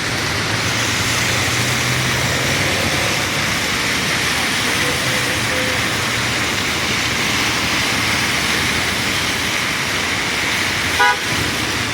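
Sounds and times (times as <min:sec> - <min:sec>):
rain falling on road: 0:00.0 - 0:11.9
traffic on wet road: 0:00.0 - 0:11.9.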